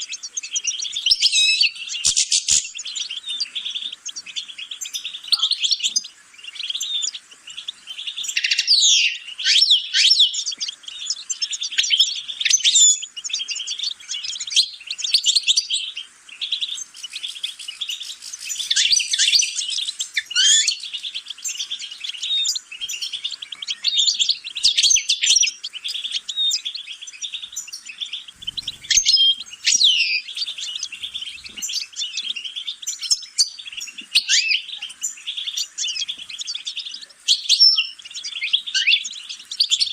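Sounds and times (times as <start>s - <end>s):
songbird twittering song: 0.0s - 39.9s.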